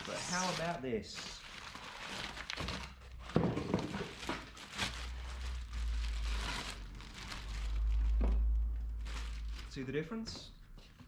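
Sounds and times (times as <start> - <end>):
packaging rustling and crinkling: 0.0 - 10.2.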